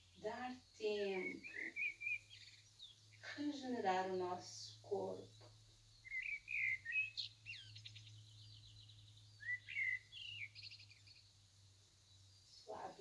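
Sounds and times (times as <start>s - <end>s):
bird chirps and trills: 0.0s - 13.0s.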